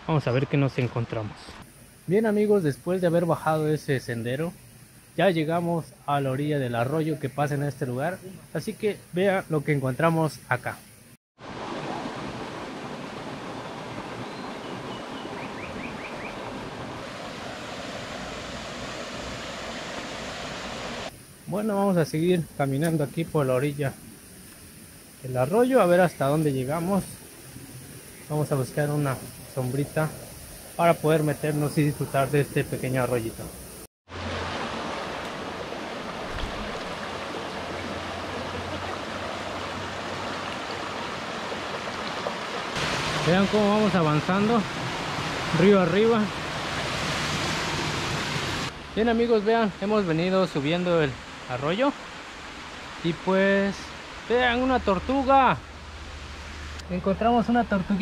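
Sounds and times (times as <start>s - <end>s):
creek rushing: 1.6s - 58.0s.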